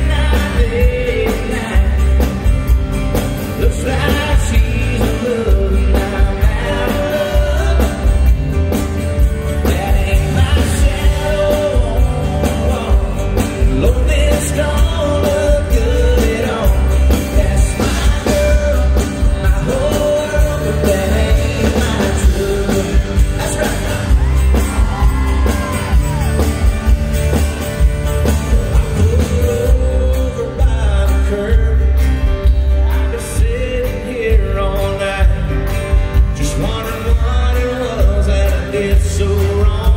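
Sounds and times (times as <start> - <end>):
men singing: 0.0 - 2.5, 3.5 - 8.4, 9.5 - 26.2, 28.4 - 32.0, 32.8 - 35.6, 36.3 - 39.9
bass and drum beat: 0.0 - 39.9
strummed acoustic guitars: 0.0 - 39.9.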